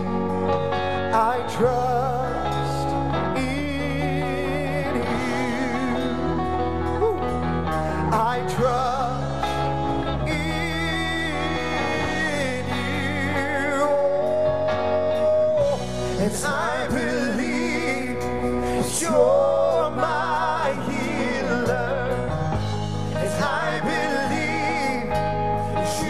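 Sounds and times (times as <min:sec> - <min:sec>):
drums: 0:00.0 - 0:26.0
electric guitars: 0:00.0 - 0:26.0
keyboard: 0:00.0 - 0:26.0
man singing: 0:00.0 - 0:26.0.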